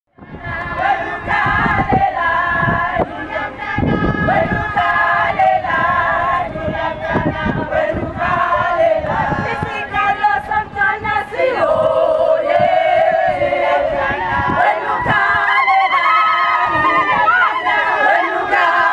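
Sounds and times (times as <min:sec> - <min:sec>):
women singing in chorus: 0:00.2 - 0:18.9.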